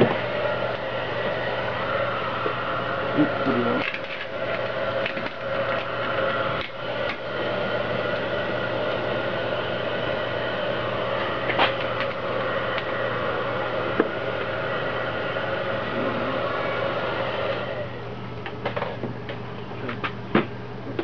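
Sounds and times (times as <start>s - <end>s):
heat gun fan humming: 0.0s - 21.0s.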